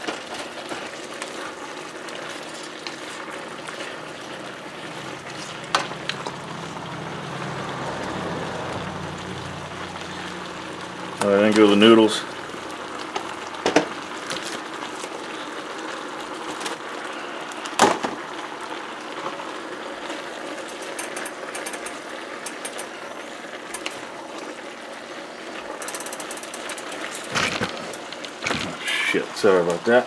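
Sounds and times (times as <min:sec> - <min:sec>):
noodles sizzling in a wok: 0:00.0 - 0:30.0.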